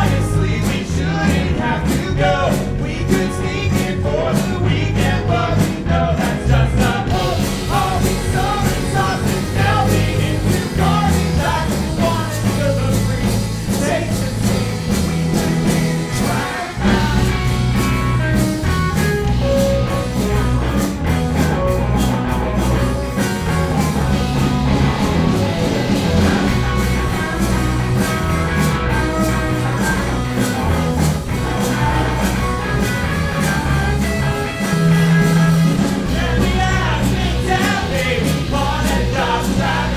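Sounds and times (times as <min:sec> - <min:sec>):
live band playing rocksteady: 0:00.0 - 0:39.9
steady drum beat: 0:00.0 - 0:39.9.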